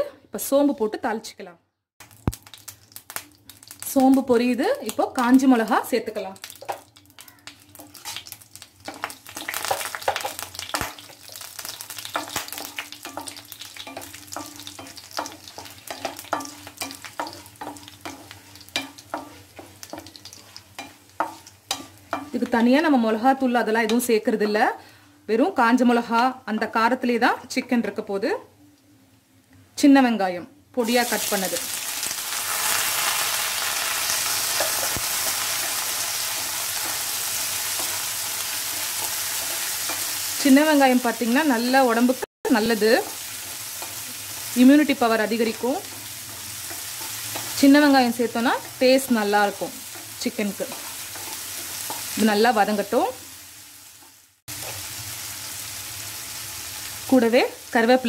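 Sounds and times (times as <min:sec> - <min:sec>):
chillies sizzling in hot oil: 0:02.0 - 0:28.3, 0:30.8 - 0:58.0.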